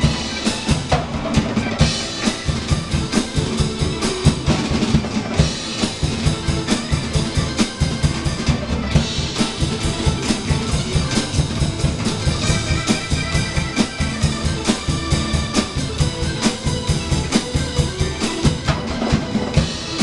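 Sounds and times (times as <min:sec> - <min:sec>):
drum kit playing groove: 0:00.0 - 0:20.0.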